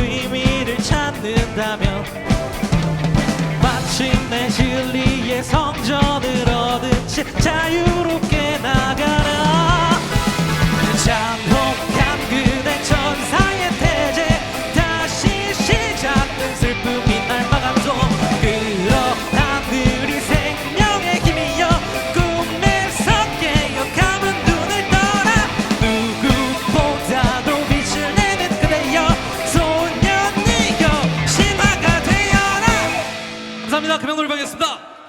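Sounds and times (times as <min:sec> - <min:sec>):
pounding drumbeat: 0:00.0 - 0:33.7
rock band playing: 0:00.0 - 0:34.6.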